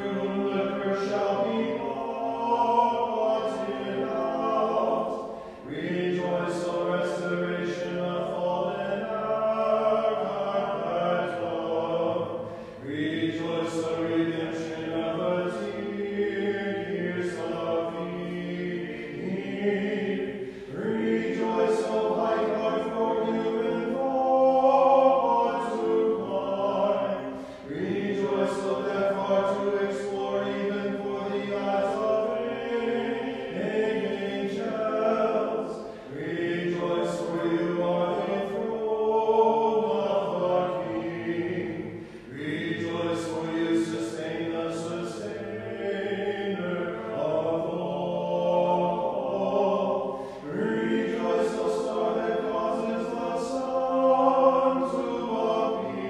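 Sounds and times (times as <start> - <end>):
choir chanting: 0.0 - 56.0.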